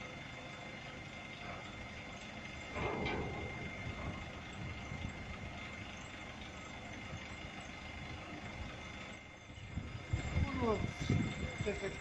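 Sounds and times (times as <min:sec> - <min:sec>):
diesel engine running: 0:00.0 - 0:12.0
thin steady whine: 0:00.0 - 0:12.0.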